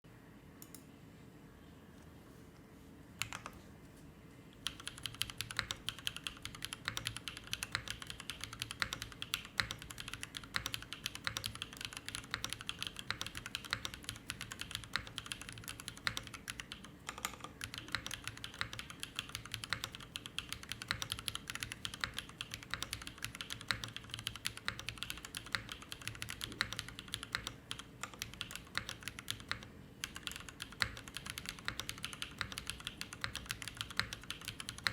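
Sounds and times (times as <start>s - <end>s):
mechanical keyboard typing: 3.2s - 3.6s, 4.6s - 34.9s.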